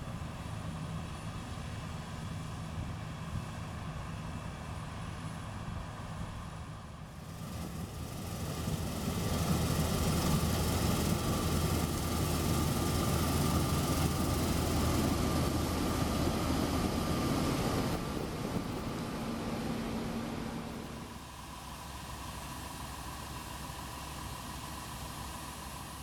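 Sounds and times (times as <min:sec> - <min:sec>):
diesel machinery engine drone: 0:00.0 - 0:26.0.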